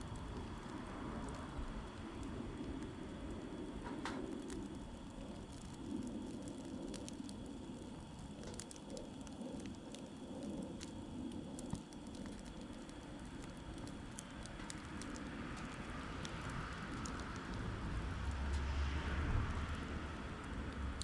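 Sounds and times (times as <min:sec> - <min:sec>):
campfire crackles and pops: 0:00.0 - 0:21.0
fire low rush: 0:00.0 - 0:21.0.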